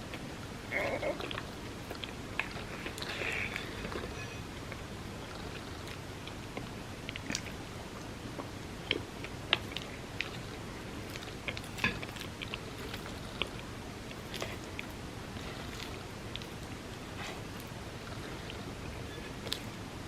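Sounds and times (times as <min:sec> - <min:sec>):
person chewing soft food: 0:00.0 - 0:20.0.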